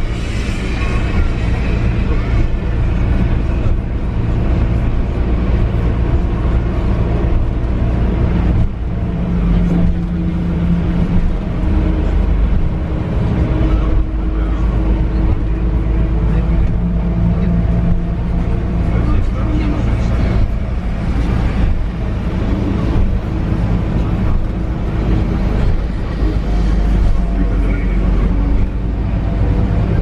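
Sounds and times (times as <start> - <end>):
bus engine drone: 0.0 - 30.0
road rumble: 0.0 - 30.0.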